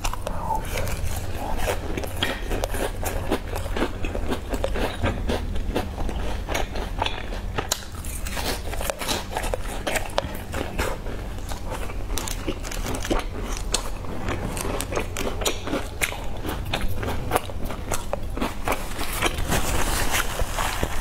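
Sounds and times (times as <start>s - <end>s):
person chewing crunchy biscuit: 0.0s - 21.0s
steady low hum: 0.0s - 21.0s.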